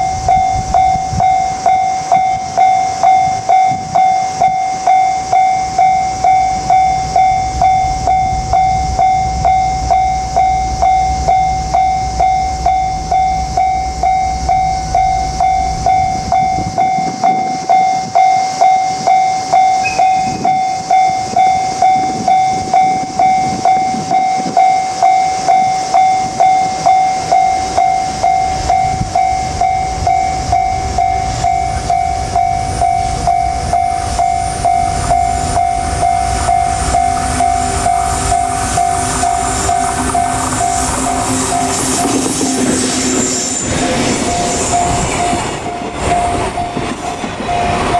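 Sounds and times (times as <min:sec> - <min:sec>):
freight train rumble: 0:00.0 - 0:47.9
level crossing electronic bell: 0:00.0 - 0:47.9.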